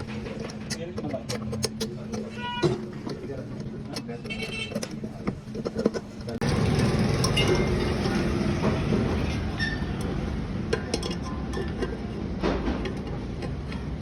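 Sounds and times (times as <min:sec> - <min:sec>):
metallic clinking and rattling: 0:00.0 - 0:14.0
steady mechanical noise: 0:00.0 - 0:14.0.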